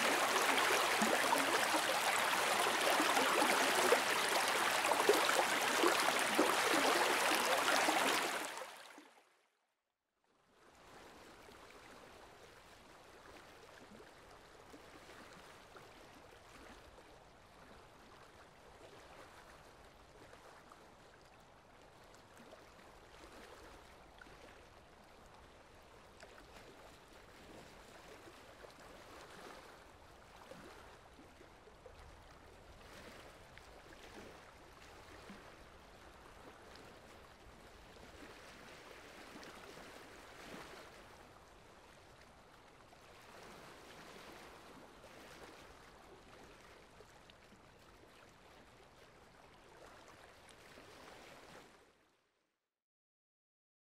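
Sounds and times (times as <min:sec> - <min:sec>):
small waves lapping: 0:00.0 - 0:09.2, 0:10.8 - 0:52.1.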